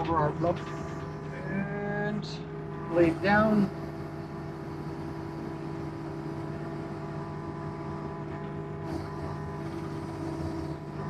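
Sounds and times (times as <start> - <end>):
excavator engine droning: 0.0 - 11.0.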